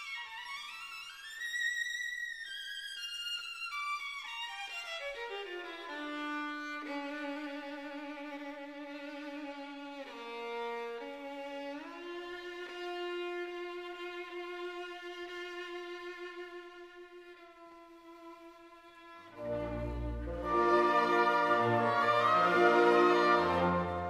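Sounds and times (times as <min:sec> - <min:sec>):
slow solo violin: 0:00.0 - 0:24.0.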